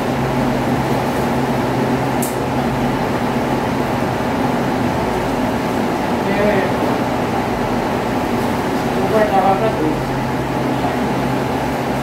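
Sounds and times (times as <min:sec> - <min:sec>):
machine hum with low drone: 0:00.0 - 0:12.0.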